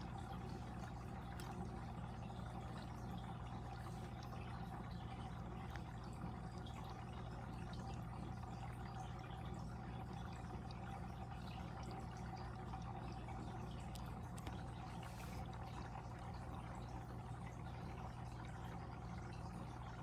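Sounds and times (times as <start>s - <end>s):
water trickling with bubbles: 0.0s - 20.0s.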